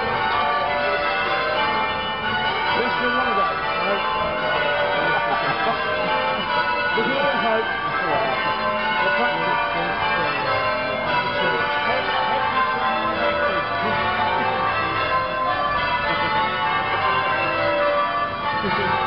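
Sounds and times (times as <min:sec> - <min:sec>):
church bells ringing changes: 0:00.0 - 0:19.0.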